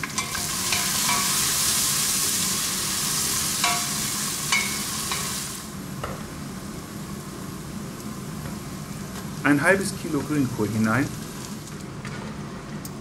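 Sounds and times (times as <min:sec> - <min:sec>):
onions sizzling in fat: 0:00.0 - 0:11.9.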